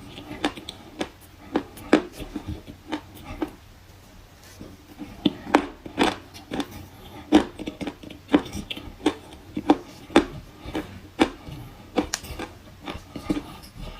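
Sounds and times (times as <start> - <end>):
crunchy chewing of chalk: 0.0 - 13.9.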